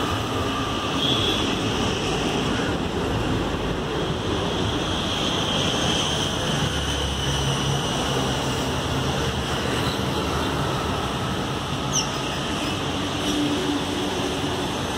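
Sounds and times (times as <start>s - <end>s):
highway traffic: 0.0s - 14.9s.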